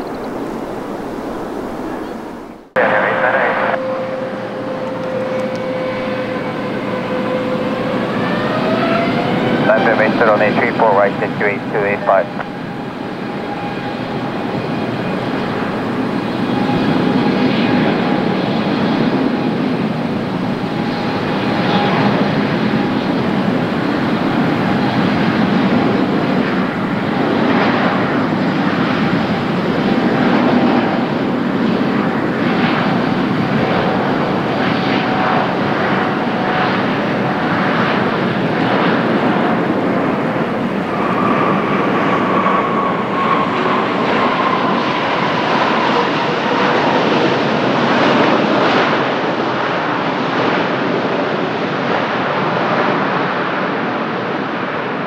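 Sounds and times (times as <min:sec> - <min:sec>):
high jet whine: 0:00.0 - 0:55.0
jet engines rumbling with whine: 0:00.0 - 0:55.0.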